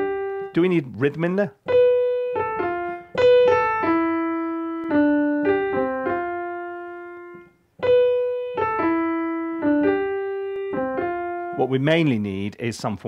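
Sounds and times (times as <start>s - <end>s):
piano melody one note at a time: 0.0s - 0.7s, 1.6s - 12.2s.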